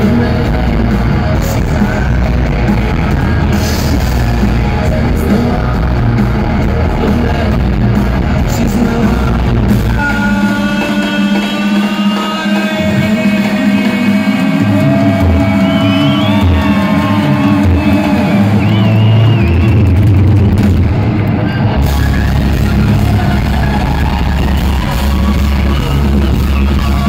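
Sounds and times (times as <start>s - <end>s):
live rock band: 0.0s - 27.0s.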